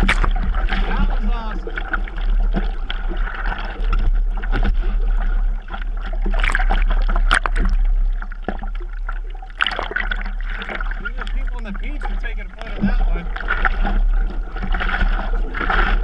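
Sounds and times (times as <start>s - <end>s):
hands paddling through water: 0.0s - 16.0s
steady low rumble: 0.0s - 16.0s
water splashing on surfboard: 0.0s - 16.0s.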